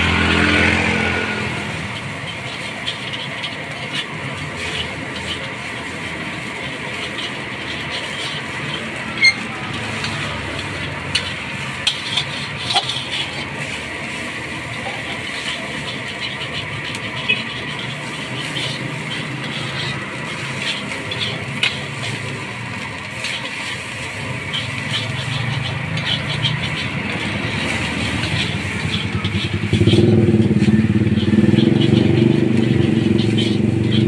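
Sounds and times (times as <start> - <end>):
food sizzling: 0.0 - 34.0
metal spatula scraping a wok: 0.0 - 34.0
passing motor traffic rumble: 0.0 - 34.0.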